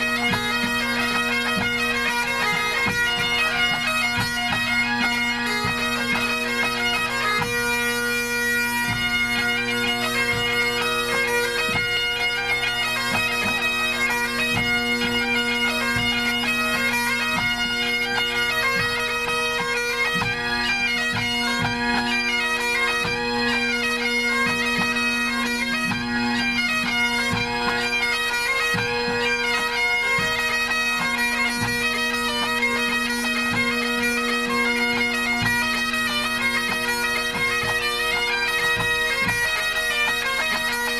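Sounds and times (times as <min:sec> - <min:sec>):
bagpipes playing: 0:00.0 - 0:40.9.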